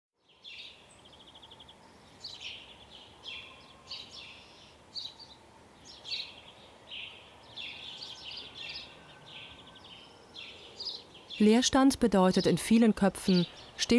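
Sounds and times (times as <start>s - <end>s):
outdoor background noise: 0.2s - 13.9s
songbirds chirping and trilling: 0.2s - 13.9s.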